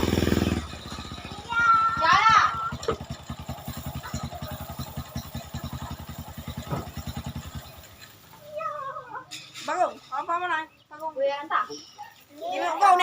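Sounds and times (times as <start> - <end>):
small engine puttering: 0.0 - 10.8.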